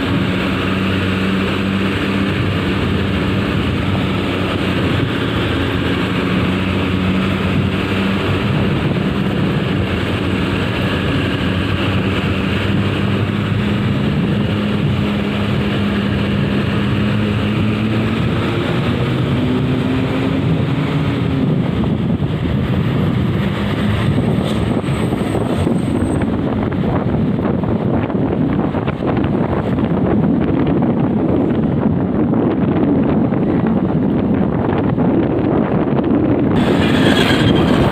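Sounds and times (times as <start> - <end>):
bus engine droning: 0.0 - 37.9
road and wind noise: 0.0 - 37.9.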